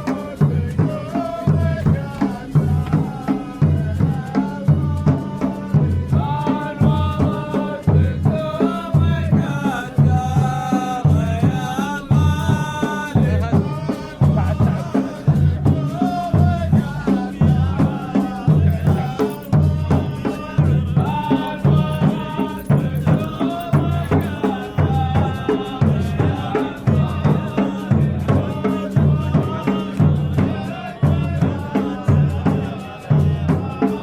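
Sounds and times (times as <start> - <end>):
wedding song instrumental: 0.0 - 32.6
steady drum beat: 0.0 - 34.0.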